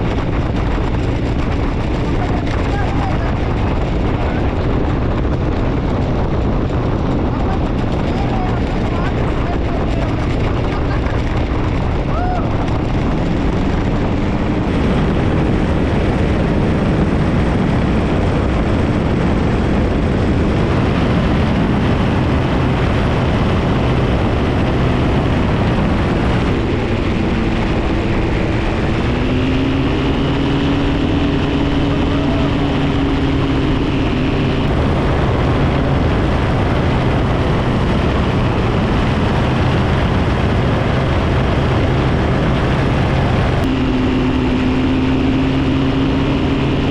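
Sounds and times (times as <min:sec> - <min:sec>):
paramotor engine and propeller: 0:00.0 - 0:46.9
wind rush on microphone: 0:00.0 - 0:46.9.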